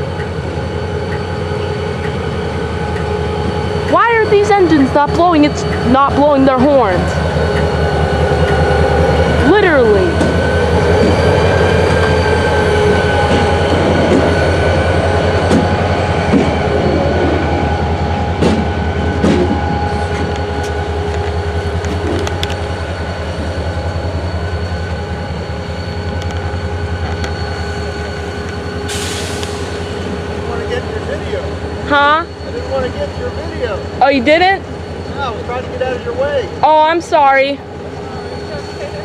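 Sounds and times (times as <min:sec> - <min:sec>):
diesel locomotive engines rumbling: 0:00.0 - 0:39.0
high metallic whine: 0:00.0 - 0:39.0.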